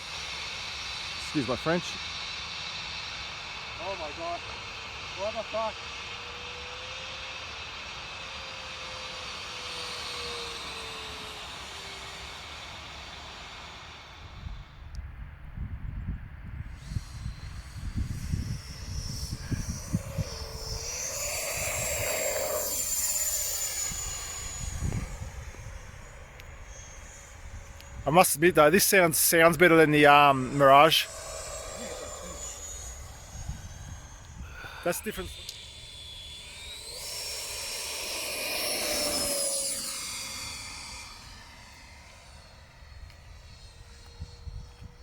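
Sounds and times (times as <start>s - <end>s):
model jet fan whining: 0.0s - 45.0s.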